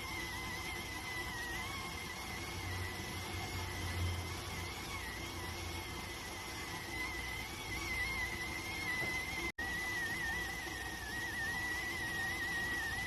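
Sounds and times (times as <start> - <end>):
high wavering steam whistle: 0.0 - 5.8, 6.8 - 13.0.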